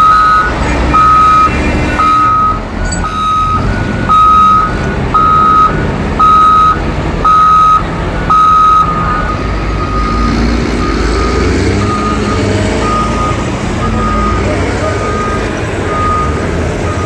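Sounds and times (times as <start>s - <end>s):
diesel engines rumbling: 0.0s - 17.0s
reversing alarm beeping: 0.0s - 17.0s.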